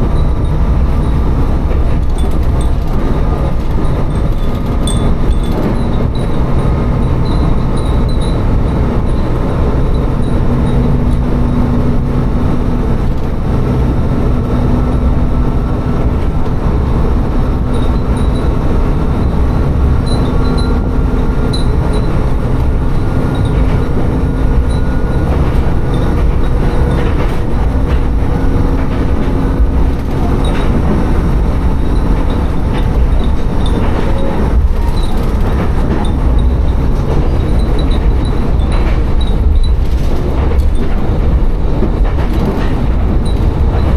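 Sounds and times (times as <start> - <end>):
diesel railcar engine drone: 0.0 - 43.9
wheels rumbling on rails: 0.0 - 43.9.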